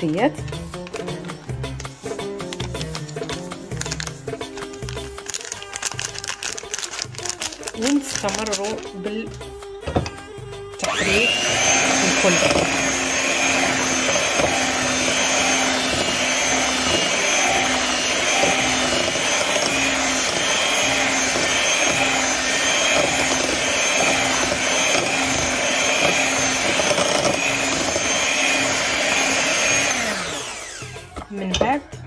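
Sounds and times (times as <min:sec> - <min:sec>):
electric hand mixer running: 0:02.0 - 0:10.2, 0:10.8 - 0:31.8.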